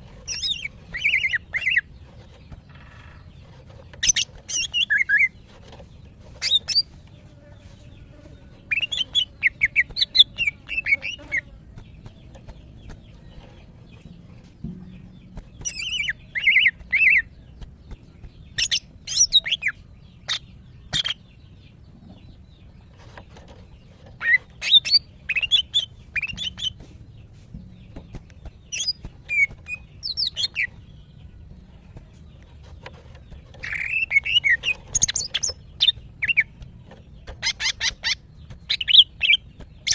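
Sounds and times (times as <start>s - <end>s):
bird chirping and ticking: 0.0s - 39.9s.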